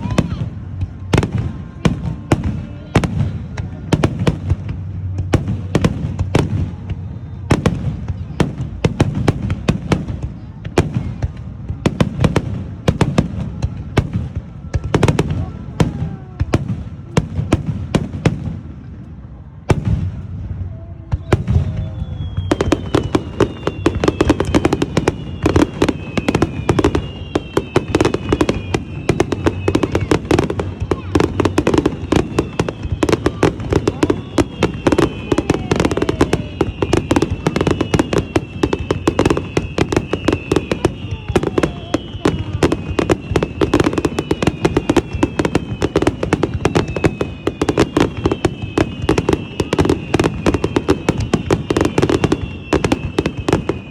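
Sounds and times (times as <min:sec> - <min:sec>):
fireworks bangs and crackles: 0:00.0 - 0:53.9
fireworks falling whistles: 0:00.0 - 0:53.9.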